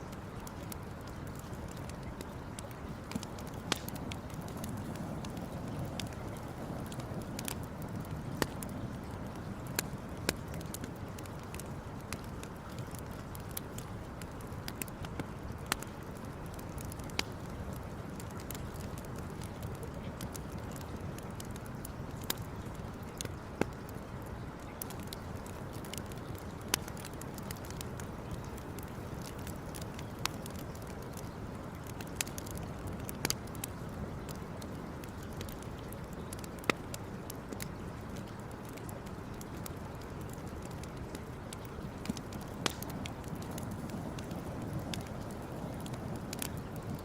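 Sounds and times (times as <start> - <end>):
campfire crackling and popping: 0.0 - 47.0
low rush of fire: 0.0 - 47.0
steady low background noise: 0.0 - 47.0.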